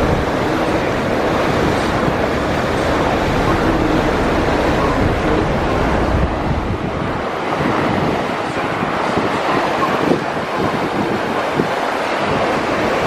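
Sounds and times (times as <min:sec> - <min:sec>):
boat engine: 0:00.0 - 0:13.0
water wash: 0:00.0 - 0:13.0
wind buffeting microphone: 0:00.0 - 0:13.0.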